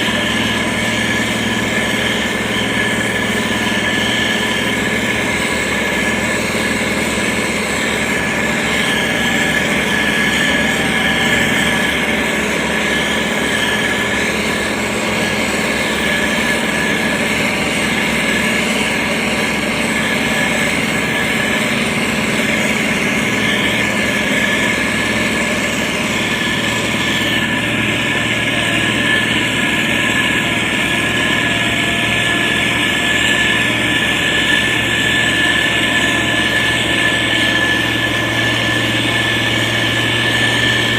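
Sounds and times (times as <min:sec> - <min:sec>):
diesel engine running: 0:00.0 - 0:40.9
high whine: 0:00.0 - 0:40.9.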